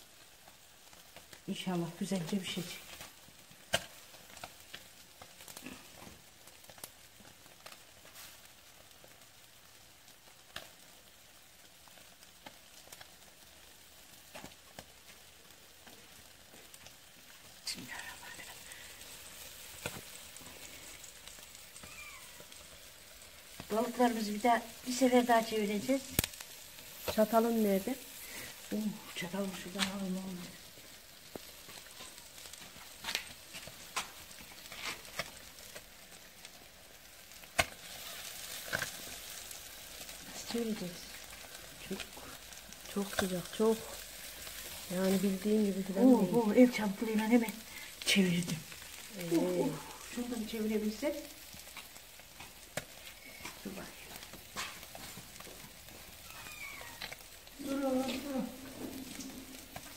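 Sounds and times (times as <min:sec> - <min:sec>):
crackles and pops: 0:00.0 - 0:59.9
fish sizzling on embers: 0:00.0 - 0:59.9.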